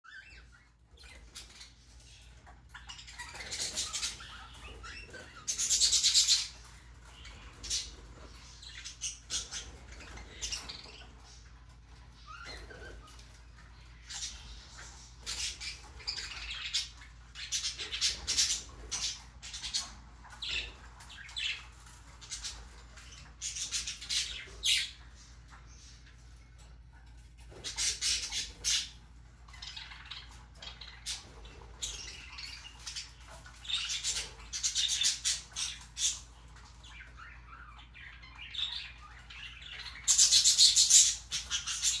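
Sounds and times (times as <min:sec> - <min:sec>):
budgerigars chirping: 0:00.1 - 0:42.0.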